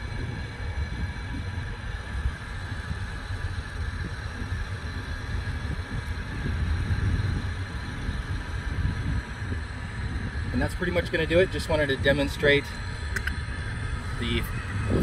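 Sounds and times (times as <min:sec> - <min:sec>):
faint steady hum: 0:00.0 - 0:15.0
wind buffeting microphone: 0:00.0 - 0:15.0.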